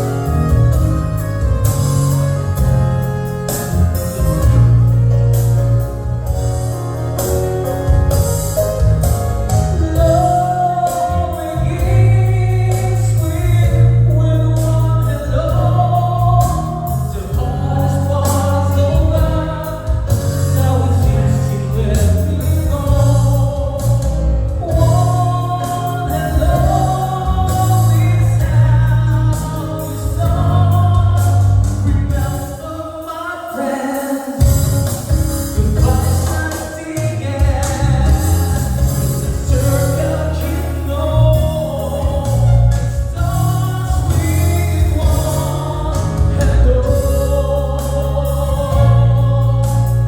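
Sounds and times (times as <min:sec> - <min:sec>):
strong bass line: 0:00.0 - 0:32.6, 0:34.4 - 0:50.0
song with singing: 0:07.2 - 0:50.0.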